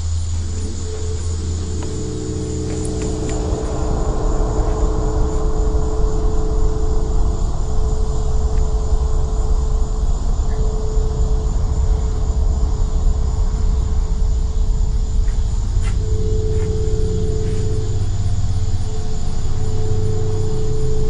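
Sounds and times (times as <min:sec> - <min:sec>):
deep steady rumble: 0:00.0 - 0:21.0
droning hum: 0:00.0 - 0:21.0.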